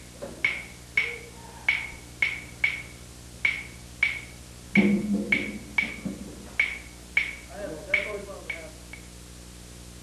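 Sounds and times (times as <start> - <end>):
sharp stick clicks with ringing: 0.4 - 6.0, 6.6 - 9.1.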